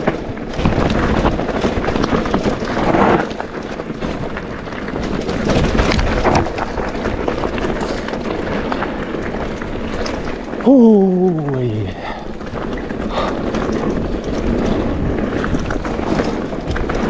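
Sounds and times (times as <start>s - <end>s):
bike rattling and clicking: 0.0s - 17.0s
bike tyres on gravel: 0.0s - 17.0s
wind buffeting microphone: 0.0s - 17.0s.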